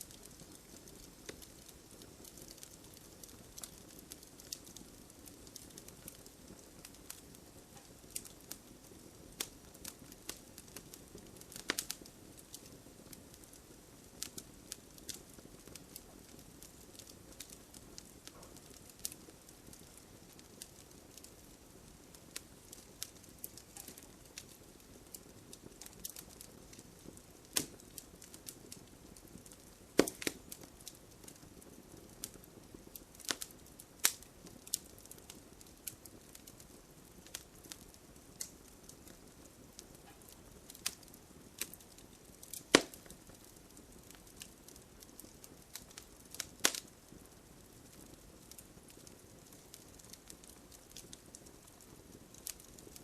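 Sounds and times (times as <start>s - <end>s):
faint steady hiss: 0.0s - 53.0s
wood fire crackling: 0.0s - 53.0s.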